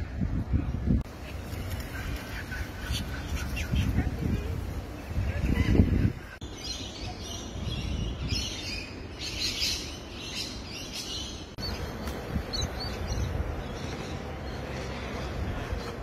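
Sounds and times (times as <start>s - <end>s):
low outdoor rumble: 0.0s - 9.2s, 11.4s - 16.0s
small birds chirping: 1.1s - 16.0s.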